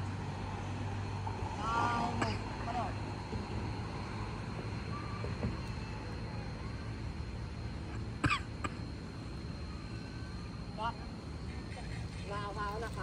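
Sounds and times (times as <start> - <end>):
thin high whine: 0.0 - 13.0.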